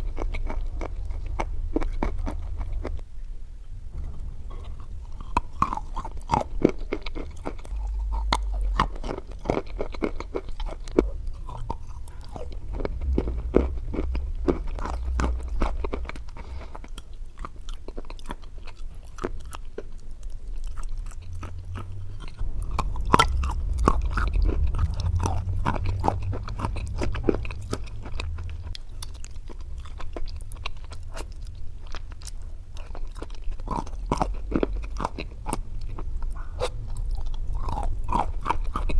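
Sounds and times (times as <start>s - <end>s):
low rumble: 0.0s - 19.6s, 20.2s - 38.9s.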